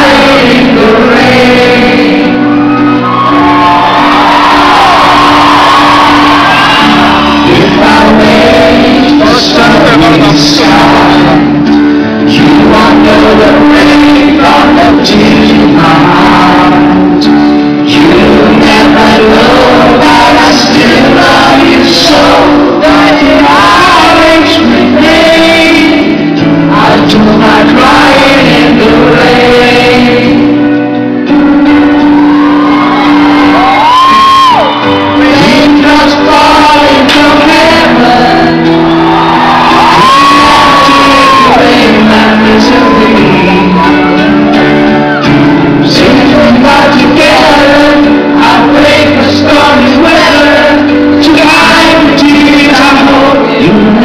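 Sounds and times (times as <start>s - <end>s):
man singing: 0.0s - 2.6s, 6.8s - 30.9s, 34.0s - 39.0s, 39.7s - 54.0s
electric guitar: 0.0s - 54.0s
live pop-rock band playing: 0.0s - 54.0s.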